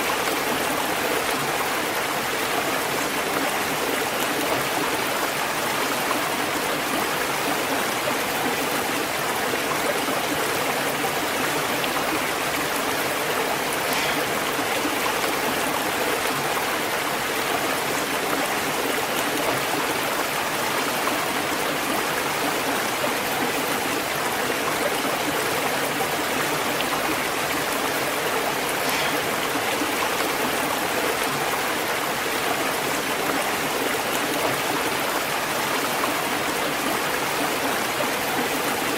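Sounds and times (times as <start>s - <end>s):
waterfall and stream rushing: 0.0s - 38.9s.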